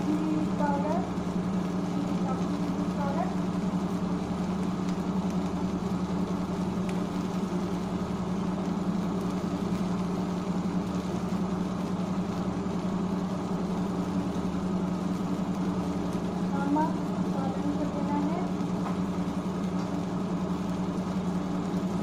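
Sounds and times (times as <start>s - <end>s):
low mechanical hum: 0.0s - 22.0s
spices sizzling in oil: 0.0s - 22.0s.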